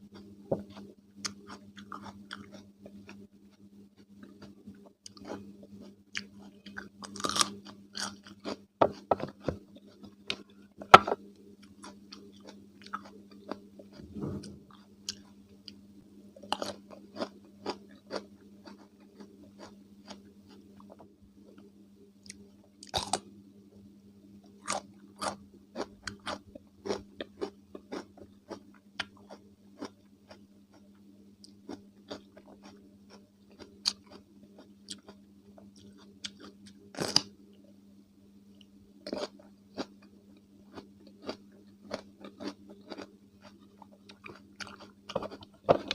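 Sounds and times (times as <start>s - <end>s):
steady low hum: 0.0s - 45.9s
crunching and chewing cucumber: 0.1s - 15.8s, 16.4s - 21.1s, 22.2s - 23.3s, 24.5s - 37.3s, 39.0s - 45.9s.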